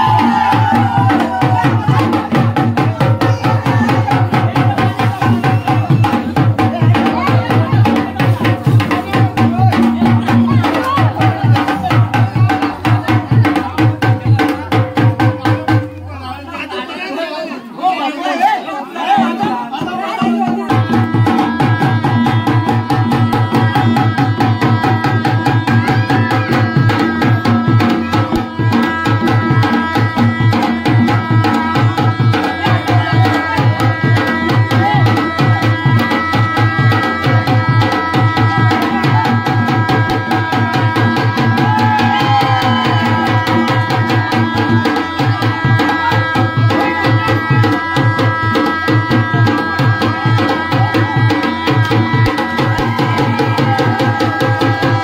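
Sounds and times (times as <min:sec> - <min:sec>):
fast steady drumming: 0:00.0 - 0:16.0, 0:19.1 - 0:55.0.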